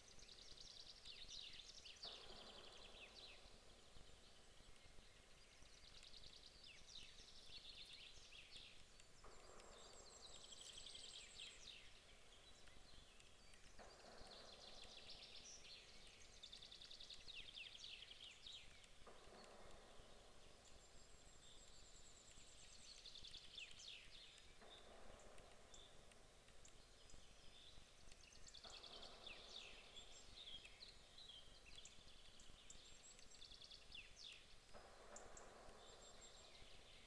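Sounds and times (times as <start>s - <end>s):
soft hiss: 0.0s - 37.0s
songbirds singing faintly: 0.0s - 37.0s.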